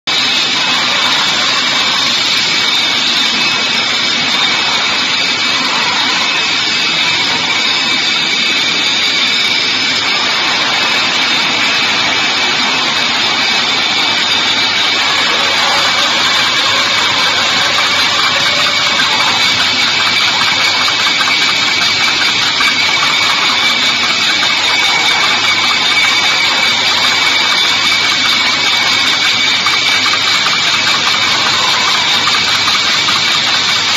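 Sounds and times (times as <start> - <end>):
bottling machinery with high whine: 0.1 - 33.9.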